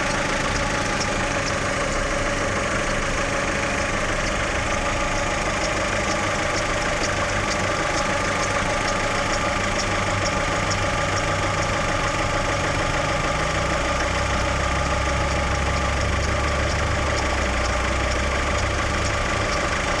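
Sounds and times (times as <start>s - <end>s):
car engine idling: 0.0s - 20.0s
deeper drone: 0.0s - 20.0s
light engine ticking: 0.0s - 20.0s.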